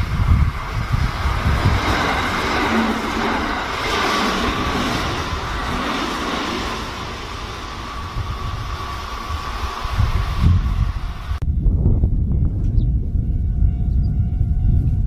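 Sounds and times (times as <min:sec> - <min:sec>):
electric train passing: 0:00.0 - 0:15.0
wind gusts on microphone: 0:00.0 - 0:15.0.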